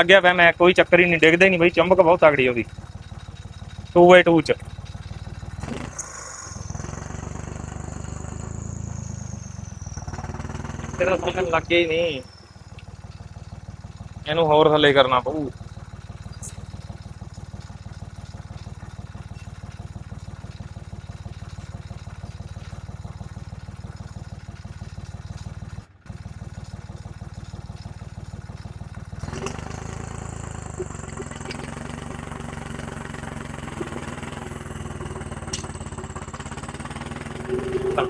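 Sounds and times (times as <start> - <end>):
tractor diesel engine chugging: 0.0 - 38.0.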